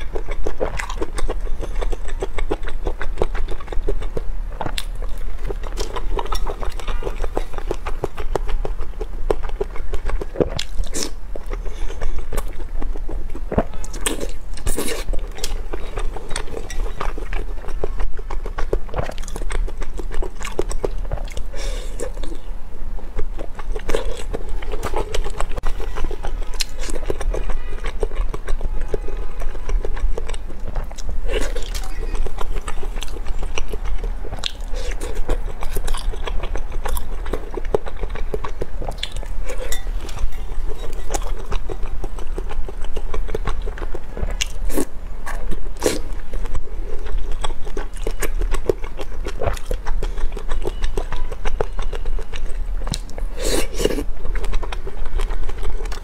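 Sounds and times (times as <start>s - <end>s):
close chewing and biting: 0.0s - 56.0s
steady low hum: 0.0s - 56.0s.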